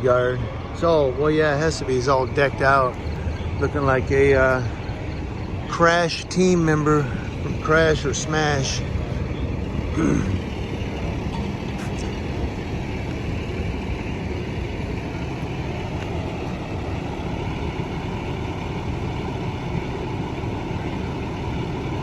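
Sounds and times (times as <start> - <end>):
fire truck engines idling: 0.0 - 22.0.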